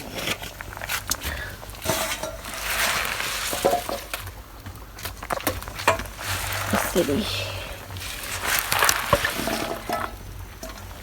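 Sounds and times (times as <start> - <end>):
feed rustling as stirred: 0.0 - 11.0.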